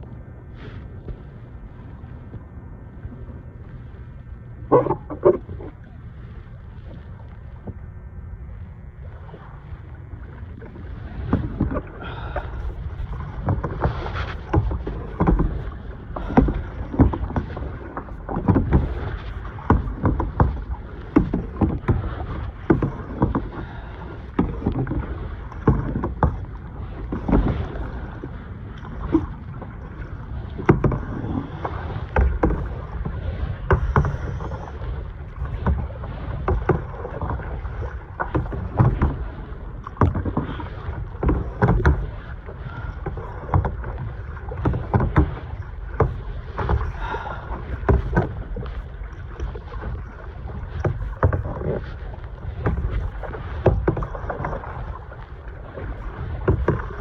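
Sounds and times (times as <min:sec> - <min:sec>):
low rumbling water: 0:00.0 - 0:57.0
wind noise on microphone: 0:00.0 - 0:57.0
paddle splashing into water: 0:10.6 - 0:57.0.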